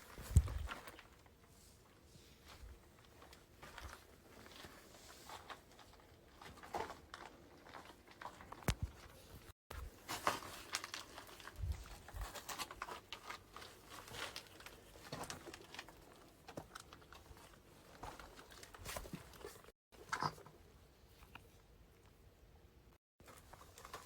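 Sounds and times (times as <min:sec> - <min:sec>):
crackling and rustling: 0:00.0 - 0:21.6, 0:23.2 - 0:24.0.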